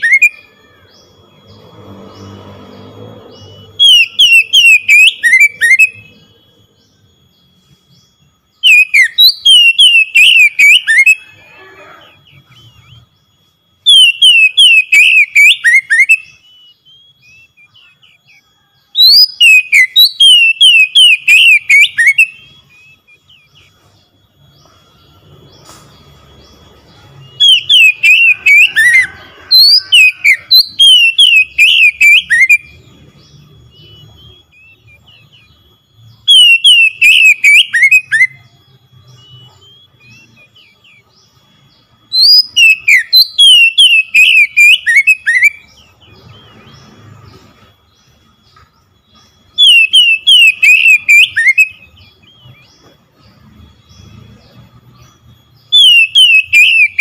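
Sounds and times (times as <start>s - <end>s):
bird singing whistled phrases: 0.0s - 1.2s, 3.4s - 6.4s, 7.0s - 23.8s, 24.4s - 47.2s, 47.9s - 52.8s, 53.8s - 57.0s
faint steady high tone: 0.0s - 57.0s.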